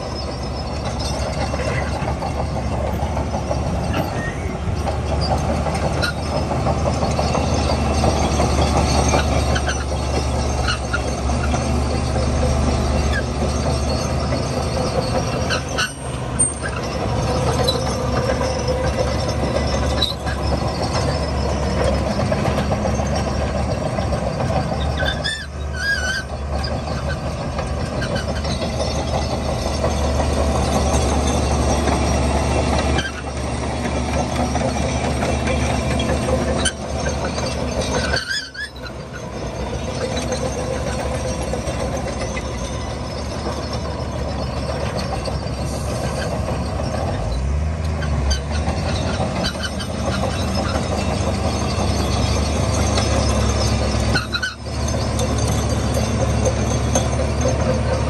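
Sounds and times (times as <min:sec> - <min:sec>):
heavy diesel machinery running: 0:00.0 - 0:58.0
high squeals: 0:00.0 - 0:58.0.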